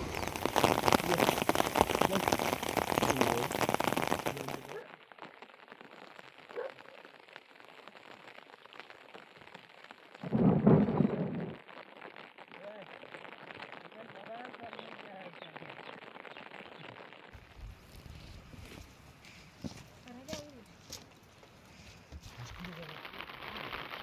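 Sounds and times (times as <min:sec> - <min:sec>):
heavy rain pattering: 0:00.0 - 0:24.0.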